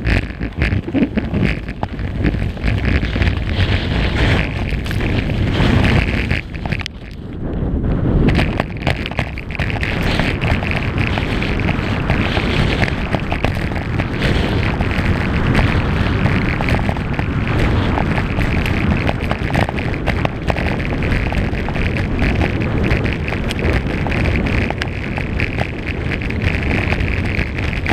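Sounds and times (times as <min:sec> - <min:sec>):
skis scraping across snow: 0:00.0 - 0:07.4, 0:08.0 - 0:27.9
wind buffeting microphone: 0:00.0 - 0:27.9.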